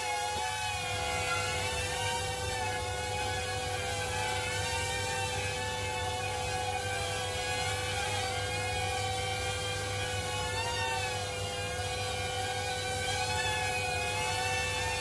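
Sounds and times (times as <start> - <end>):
constant hum: 0.0 - 15.0
quadcopter propellers whirring: 0.0 - 15.0.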